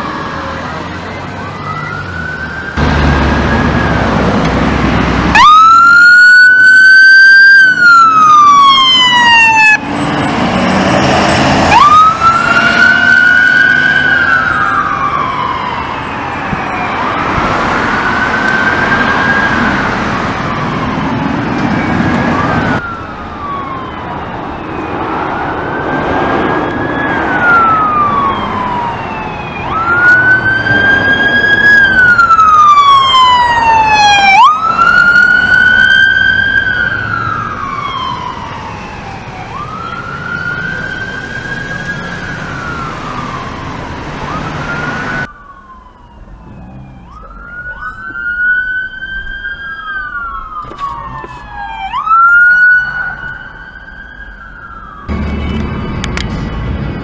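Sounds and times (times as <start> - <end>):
emergency siren wailing: 0.0 - 57.0.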